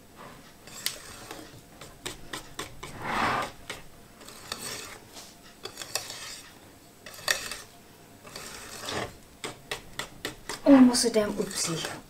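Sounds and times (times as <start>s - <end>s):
utensils scraping dishes: 0.6s - 5.0s, 5.6s - 12.0s.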